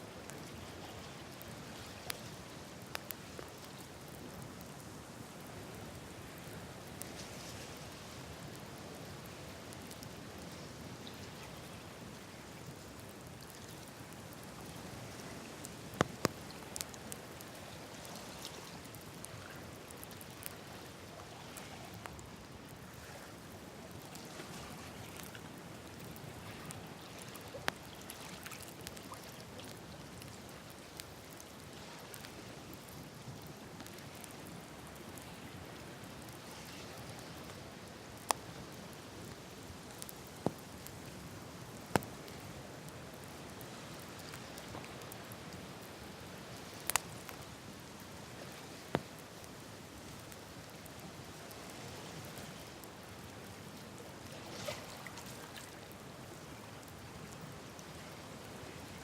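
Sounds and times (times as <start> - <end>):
campfire hiss and crackle: 0.0 - 59.0.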